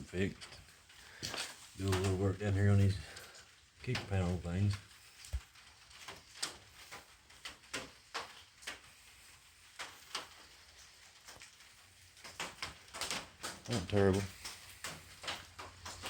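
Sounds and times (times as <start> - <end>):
light irregular clicks and knocks: 0.0 - 16.0.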